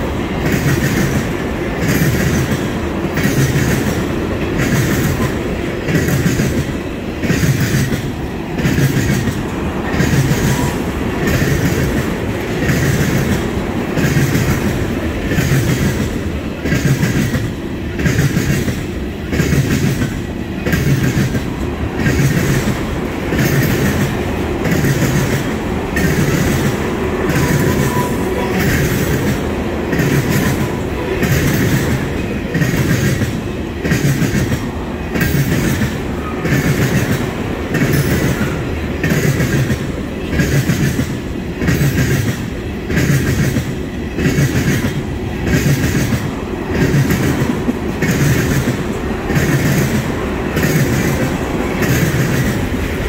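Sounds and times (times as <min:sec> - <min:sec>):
rhythmic clickety-clack of wheels: 0:00.0 - 0:53.0
train wheels rumbling on rail: 0:00.0 - 0:53.0.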